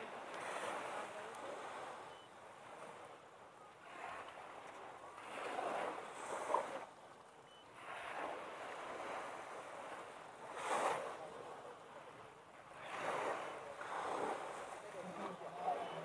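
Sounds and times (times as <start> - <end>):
small waves on sandy beach: 0.0 - 16.0.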